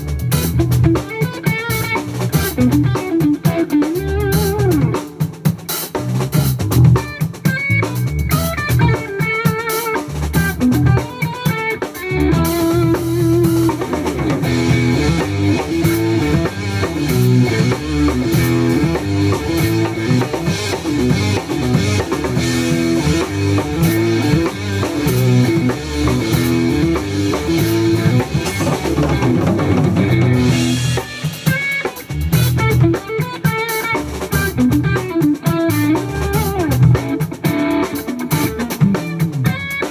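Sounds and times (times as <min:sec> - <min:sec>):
drum kit: 0:00.0 - 0:39.9
electric bass guitar: 0:00.0 - 0:39.9
electric guitar riff: 0:00.0 - 0:39.9.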